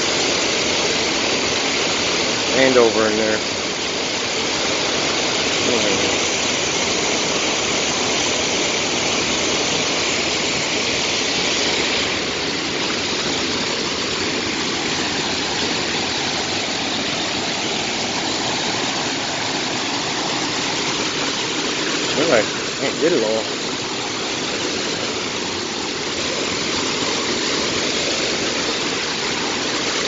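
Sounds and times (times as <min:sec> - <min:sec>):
water rushing over dam: 0:00.0 - 0:30.0.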